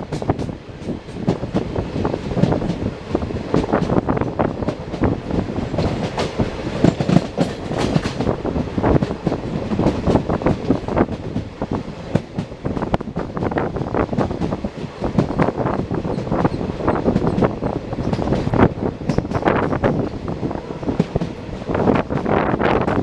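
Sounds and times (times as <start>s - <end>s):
train rumble: 0.0s - 23.0s
train wheels clattering: 0.0s - 23.0s.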